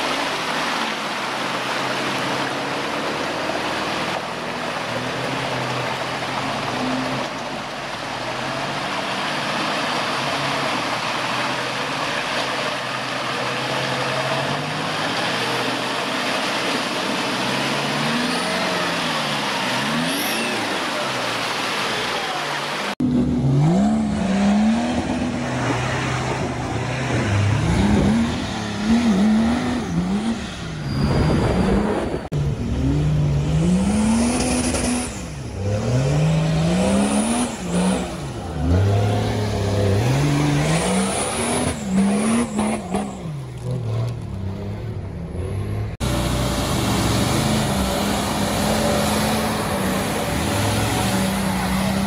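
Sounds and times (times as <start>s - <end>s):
mud and water churning: 0.0s - 31.8s, 33.3s - 44.4s, 46.1s - 52.0s
truck engine under load: 0.0s - 52.0s
engine revving: 8.3s - 52.0s.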